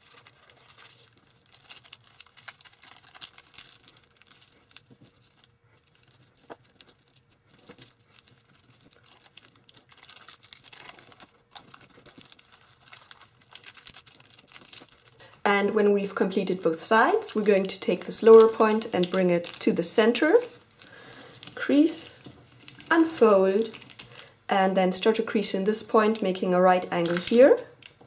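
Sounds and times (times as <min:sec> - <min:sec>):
foil crinkling: 0:00.0 - 0:15.4, 0:16.5 - 0:21.6, 0:22.3 - 0:24.3, 0:25.9 - 0:28.0.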